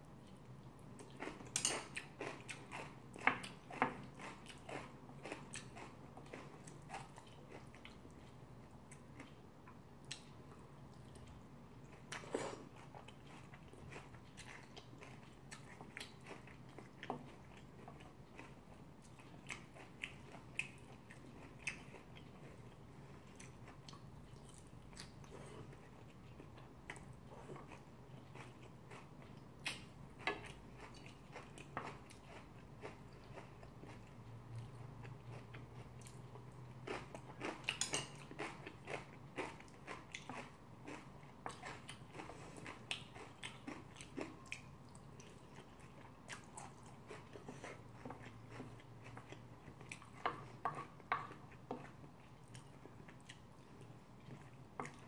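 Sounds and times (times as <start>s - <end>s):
person chewing food: 0.1s - 55.0s.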